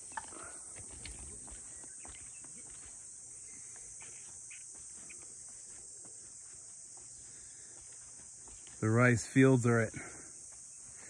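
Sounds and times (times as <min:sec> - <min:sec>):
insect chorus buzzing trill: 0:00.0 - 0:11.0.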